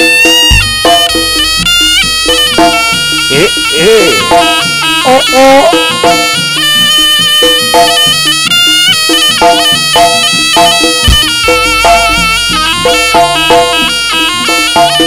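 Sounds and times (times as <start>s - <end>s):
drum beat: 0.0s - 15.0s
gongs: 0.0s - 15.0s
reedy shawm melody: 0.0s - 15.0s.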